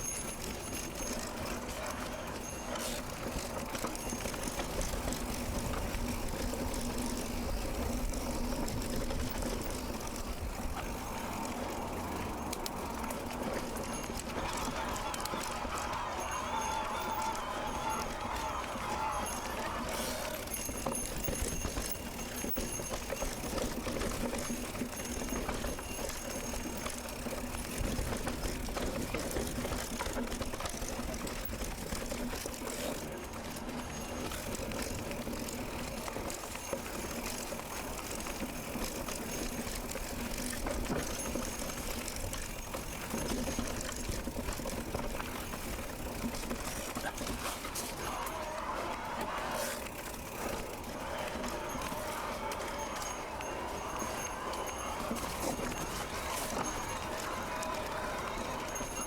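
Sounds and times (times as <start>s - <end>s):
bike tyre noise: 0.1s - 59.0s.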